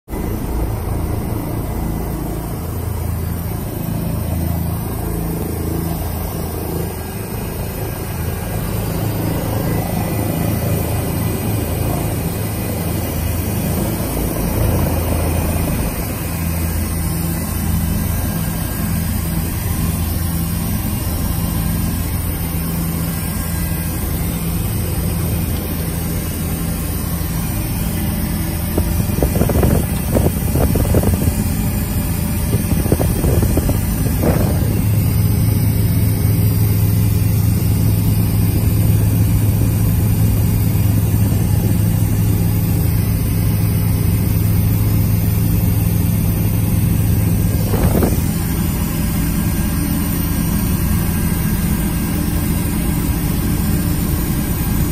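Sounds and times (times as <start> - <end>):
helicopter engine and rotor: 0.0 - 54.9.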